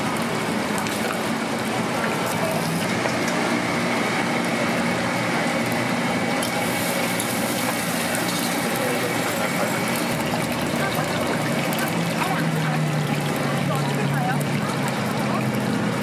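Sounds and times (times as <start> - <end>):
dense hiss of street-food stall: 0.0 - 16.0.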